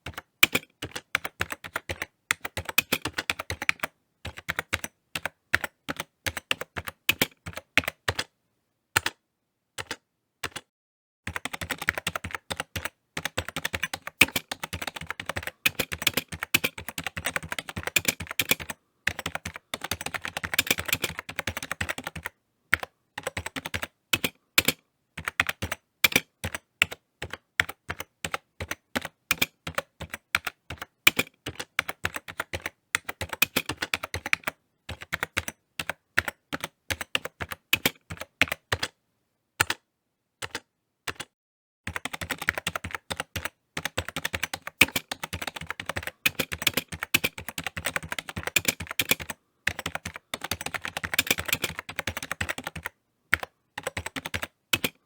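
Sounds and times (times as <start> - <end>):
computer keyboard typing: 0.0 - 8.3, 9.0 - 9.2, 9.8 - 10.7, 11.3 - 39.0, 40.4 - 41.3, 41.9 - 55.0.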